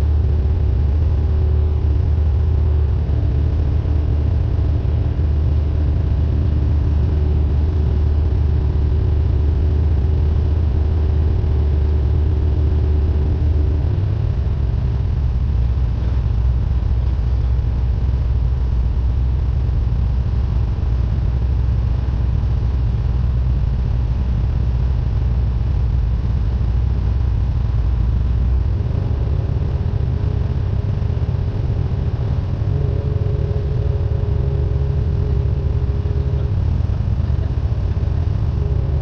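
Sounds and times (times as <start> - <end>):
propeller plane engine droning: 0.0 - 39.0.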